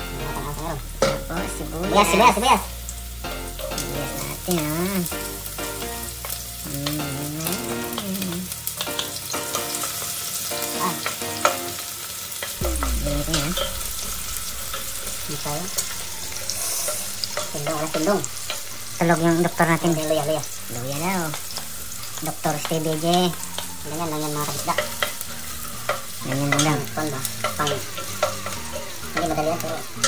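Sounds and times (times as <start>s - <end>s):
garlic and onions sizzling in oil: 0.0s - 30.0s.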